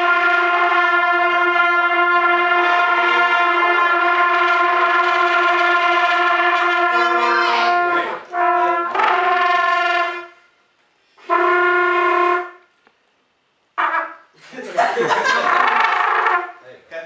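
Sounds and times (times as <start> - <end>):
trumpets playing held notes: 0.0 - 10.6, 11.2 - 12.7, 13.8 - 14.3, 15.4 - 16.6.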